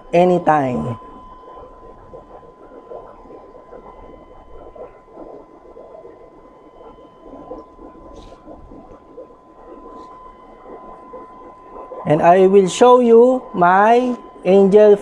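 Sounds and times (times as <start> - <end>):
aquarium water bubbling: 0.0 - 15.0
faint steady high tone: 0.0 - 15.0.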